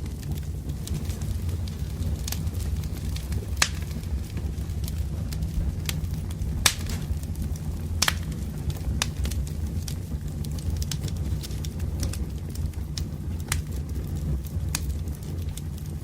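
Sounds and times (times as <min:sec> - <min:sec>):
fire crackling and popping: 0:00.0 - 0:16.0
wood fire rumbling: 0:00.0 - 0:16.0.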